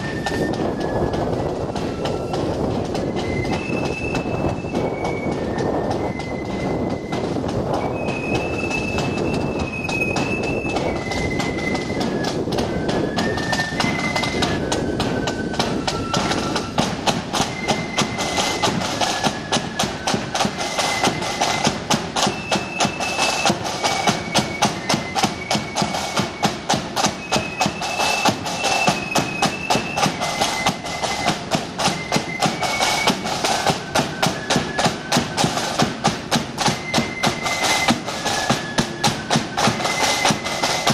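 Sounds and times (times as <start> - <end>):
high flute melody: 0.0 - 40.9
side drums: 0.0 - 40.9.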